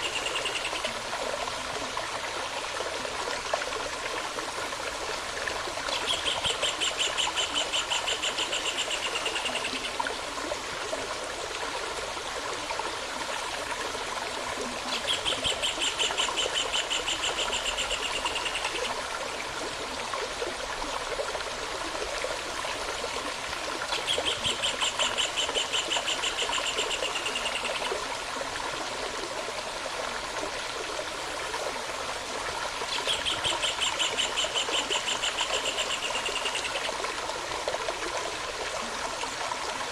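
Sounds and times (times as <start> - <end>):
stream water burbling: 0.0 - 39.9.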